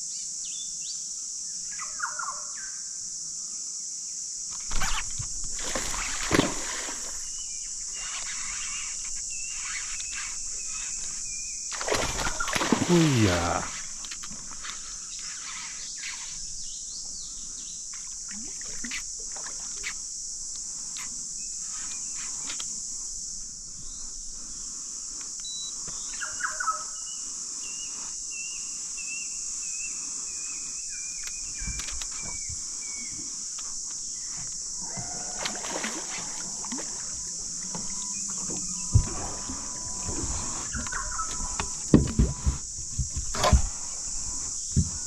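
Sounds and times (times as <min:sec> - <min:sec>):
steady high-pitched hiss: 0:00.0 - 0:45.0.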